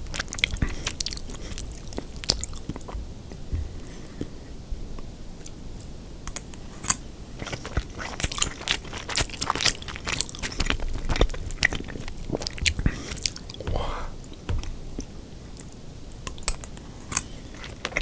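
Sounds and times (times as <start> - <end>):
person chewing crunchy food: 0.0 - 4.4, 5.4 - 18.0.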